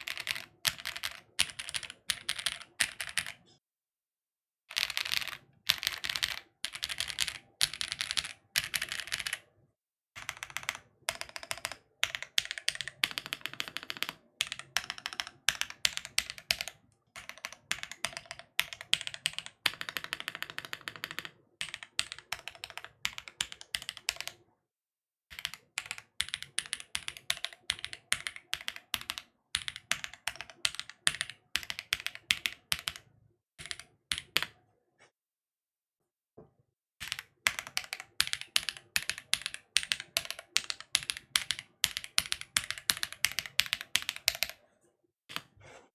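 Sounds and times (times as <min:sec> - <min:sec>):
typing on mechanical keyboard: 0:00.0 - 0:03.5, 0:04.7 - 0:09.4, 0:10.2 - 0:24.4, 0:25.3 - 0:34.6, 0:37.0 - 0:44.6.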